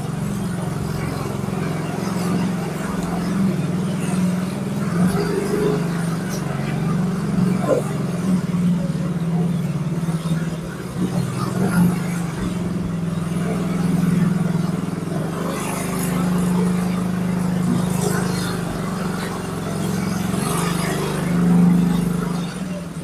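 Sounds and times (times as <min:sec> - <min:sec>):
motorcycle engine at low speed: 0:00.0 - 0:23.0.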